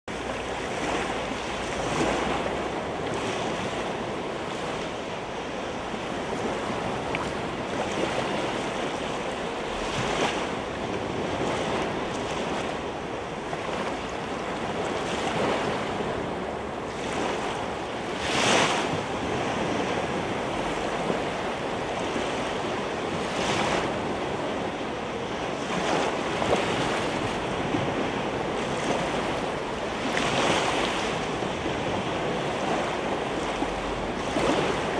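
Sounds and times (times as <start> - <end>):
sea waves washing in: 0.1 - 34.9.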